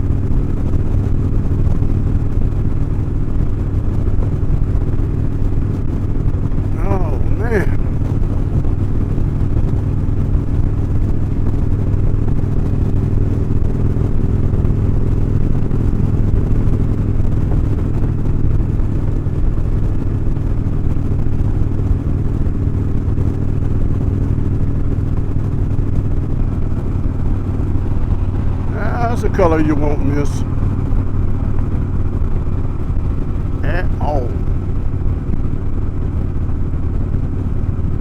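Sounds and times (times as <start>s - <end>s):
motorcycle engine cruising: 0.0s - 38.0s
road noise: 0.0s - 38.0s.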